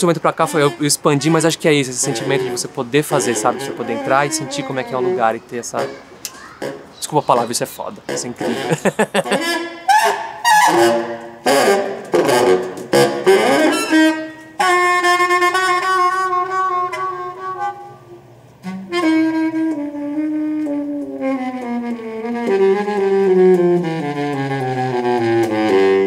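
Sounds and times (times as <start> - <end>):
saxophone playing: 0.3 - 26.0.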